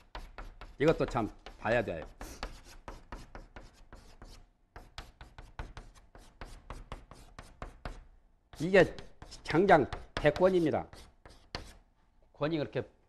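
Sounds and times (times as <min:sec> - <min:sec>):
chalk tapping on a blackboard: 0:00.0 - 0:11.8.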